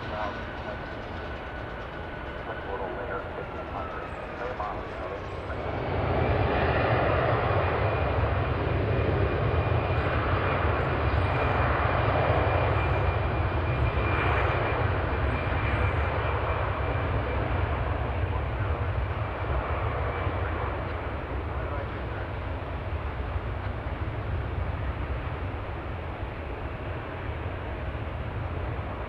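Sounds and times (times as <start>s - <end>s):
high engine whine: 0.0s - 29.0s
jet engines rumbling: 0.0s - 29.0s.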